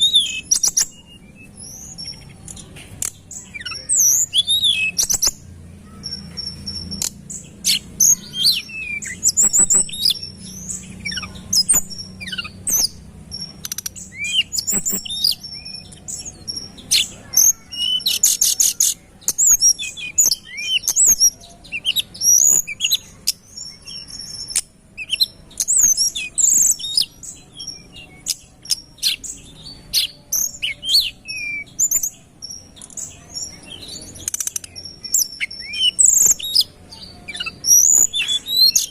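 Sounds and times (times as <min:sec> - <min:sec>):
songbird singing chirps and trills: 0:00.0 - 0:38.9.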